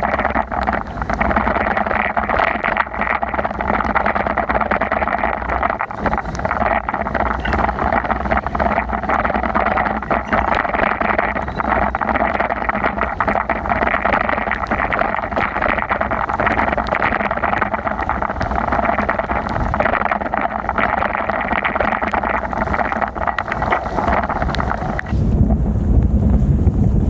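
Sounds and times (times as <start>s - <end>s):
raindrops ticking: 0.0s - 25.1s
wind on microphone: 0.0s - 27.0s.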